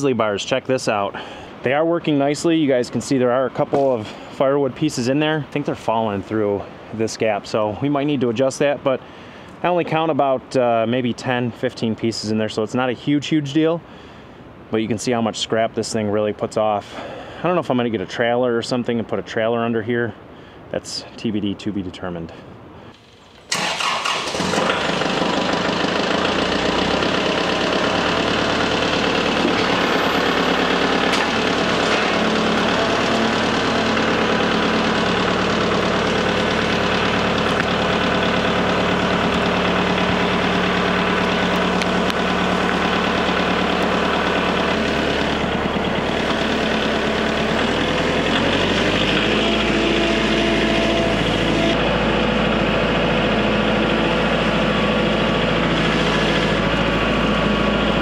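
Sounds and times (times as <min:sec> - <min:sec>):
tractor diesel engine idling: 0:00.0 - 0:11.8, 0:22.9 - 0:58.0.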